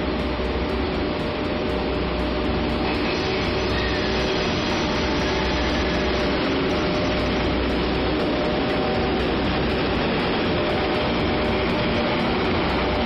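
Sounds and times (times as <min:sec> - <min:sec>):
electric locomotive humming: 0:00.0 - 0:13.0.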